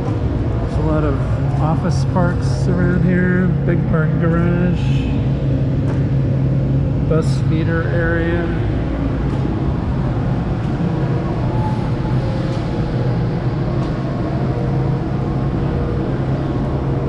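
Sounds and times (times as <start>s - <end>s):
low rumble: 0.0s - 17.0s
mechanical hum: 0.0s - 17.0s.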